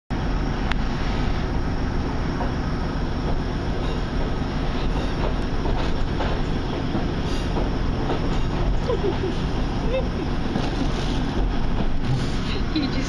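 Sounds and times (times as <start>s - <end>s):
train rumble from inside carriage: 0.1s - 13.0s.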